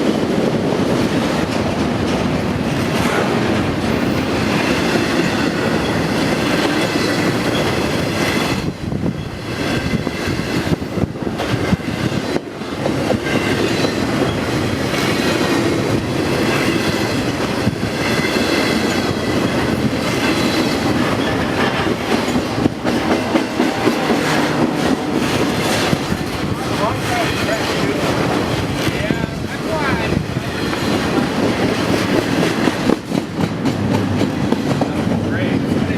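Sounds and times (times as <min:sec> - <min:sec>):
train wheels knocking on rails: 0:00.0 - 0:35.9.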